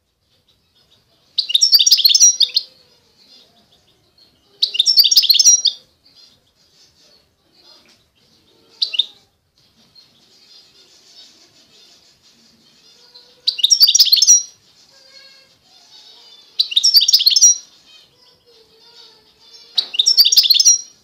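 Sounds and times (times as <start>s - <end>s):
finch twittering and chirping: 0.2s - 21.0s.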